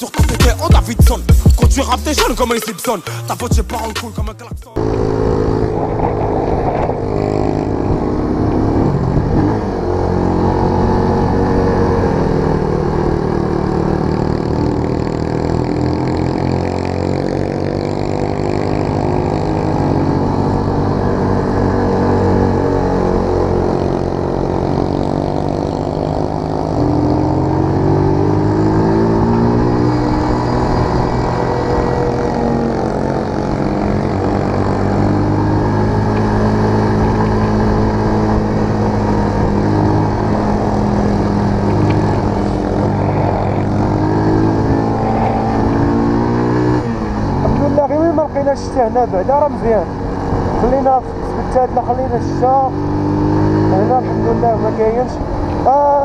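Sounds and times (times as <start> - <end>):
motorcycle engine running: 3.4 - 56.0.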